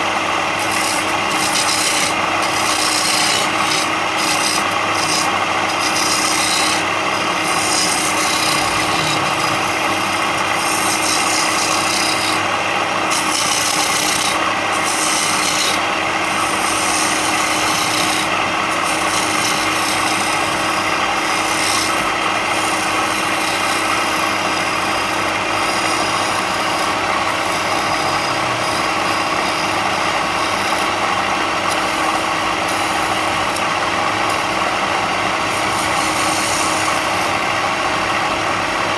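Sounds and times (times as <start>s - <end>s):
power tool sanding wood: 0.0s - 38.9s.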